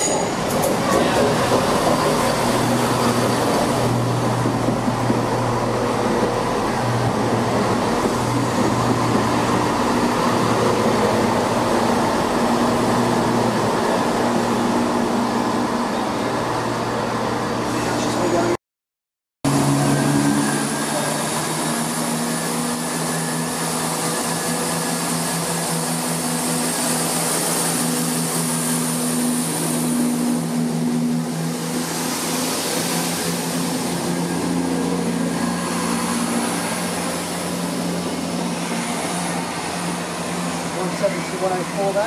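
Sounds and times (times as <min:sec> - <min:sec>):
diesel train passing: 0:00.0 - 0:18.6, 0:19.5 - 0:42.0.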